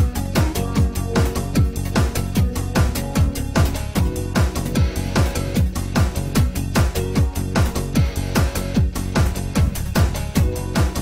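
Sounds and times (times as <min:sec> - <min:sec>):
electronic dance music: 0:00.0 - 0:11.0
kick drum: 0:00.0 - 0:11.0.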